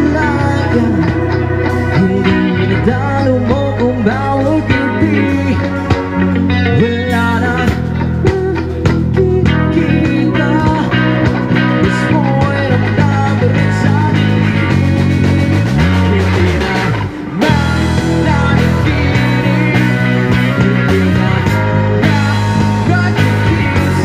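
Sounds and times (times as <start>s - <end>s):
bass guitar: 0.0s - 24.0s
drums: 0.0s - 24.0s
electric guitar with bent notes: 0.0s - 24.0s.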